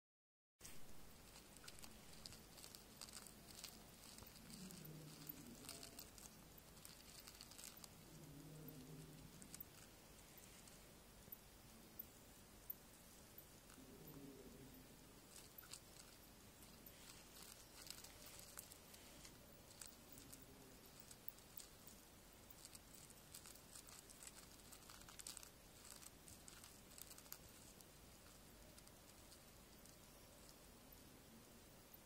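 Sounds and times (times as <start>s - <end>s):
beetle scratching in sand: 0.7s - 10.8s, 13.6s - 30.6s.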